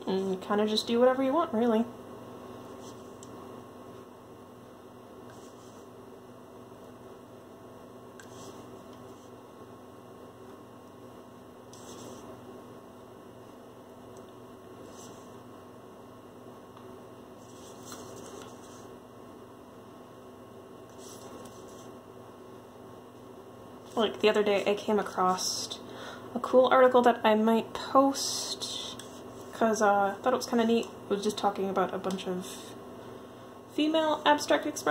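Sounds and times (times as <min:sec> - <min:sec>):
electrical hum: 0:00.0 - 0:34.9.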